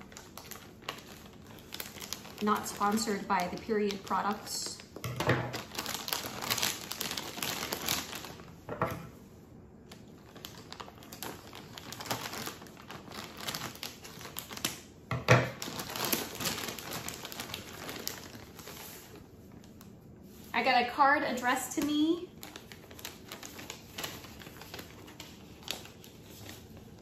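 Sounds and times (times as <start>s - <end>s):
plastic mailer crinkling: 0.0s - 8.6s, 9.9s - 19.9s, 21.3s - 27.0s.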